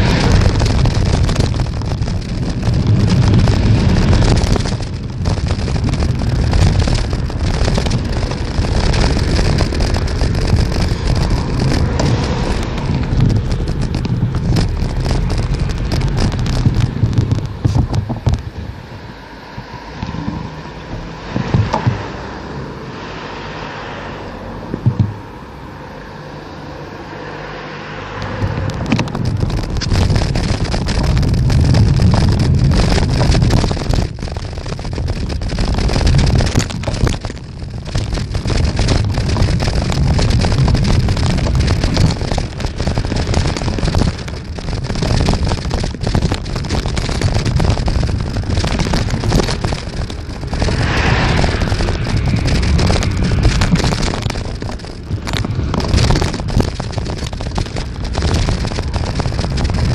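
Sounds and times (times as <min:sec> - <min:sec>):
wind buffeting microphone: 0:00.0 - 0:26.2, 0:28.2 - 0:59.9
road and tyre noise: 0:00.0 - 0:59.9.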